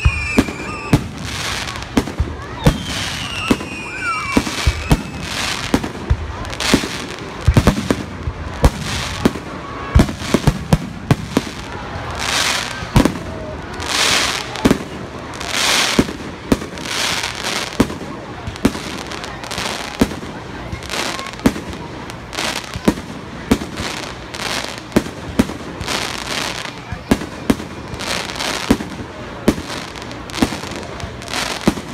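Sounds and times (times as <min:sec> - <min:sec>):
firework hissing: 0:00.0 - 0:31.9.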